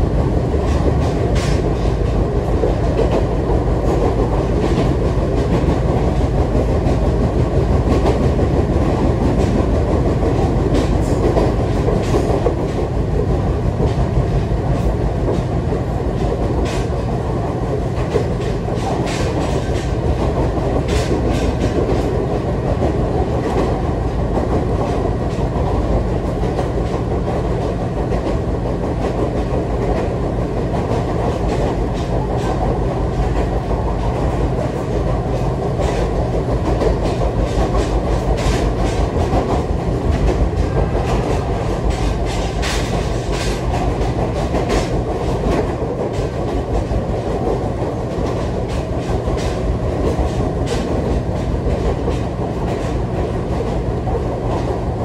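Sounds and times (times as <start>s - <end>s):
train low rumble inside car: 0.0s - 55.0s
wheels clicking on track: 0.0s - 55.0s.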